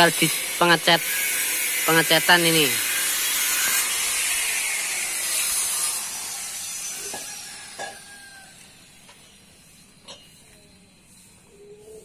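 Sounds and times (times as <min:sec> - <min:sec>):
spray paint hissing: 0:00.0 - 0:12.0.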